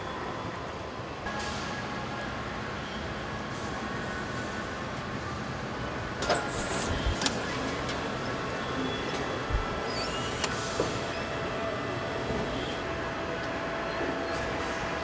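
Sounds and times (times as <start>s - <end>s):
industrial machinery hum: 0.8s - 15.0s.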